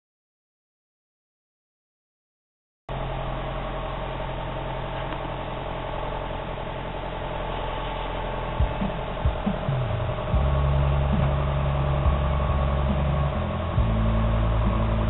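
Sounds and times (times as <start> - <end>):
tractor diesel engine running: 2.9 - 15.0.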